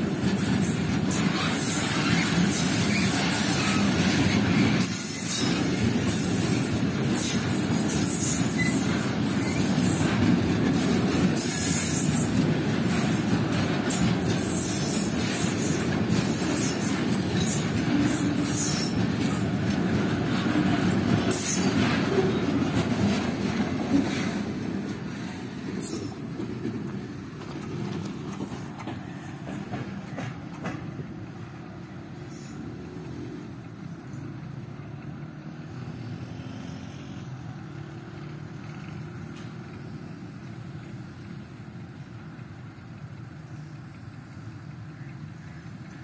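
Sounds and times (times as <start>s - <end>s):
steel wheels rumbling on rails: 0.0s - 46.0s.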